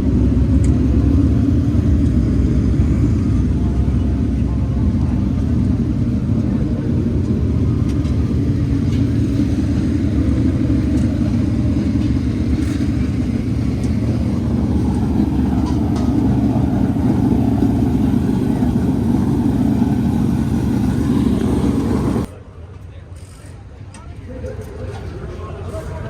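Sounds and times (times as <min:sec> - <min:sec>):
race car engine droning: 0:00.0 - 0:22.3.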